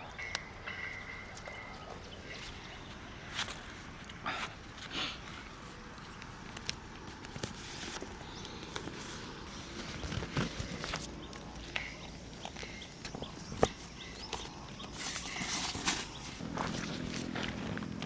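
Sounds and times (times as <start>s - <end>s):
camping gear rustling: 0.8s - 18.0s.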